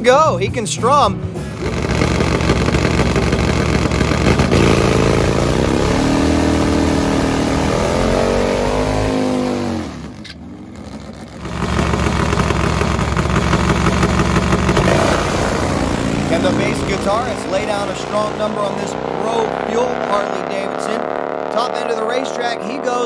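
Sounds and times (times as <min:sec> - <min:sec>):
motorcycle engine revving: 0:01.3 - 0:23.0.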